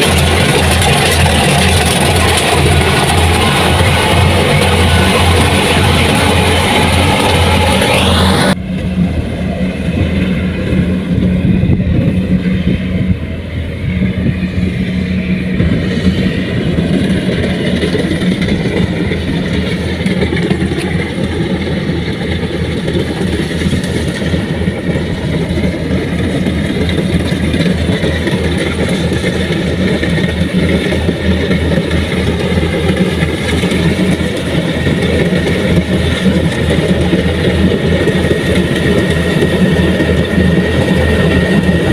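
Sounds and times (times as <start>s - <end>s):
farm machine engine running: 0.0s - 41.9s.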